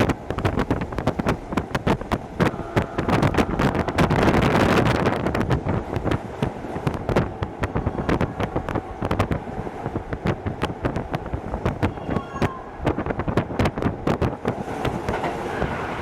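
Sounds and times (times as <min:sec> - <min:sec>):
rushing noise: 0:00.0 - 0:16.0
train rumble from inside: 0:00.0 - 0:16.0
wheels clicking on track: 0:00.0 - 0:16.0.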